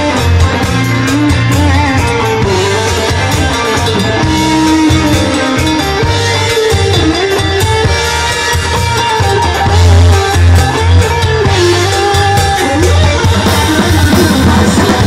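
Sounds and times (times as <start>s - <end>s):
bass: 0.0s - 15.0s
drum kit: 0.0s - 15.0s
electric guitar: 0.0s - 15.0s
held melody line: 0.0s - 15.0s.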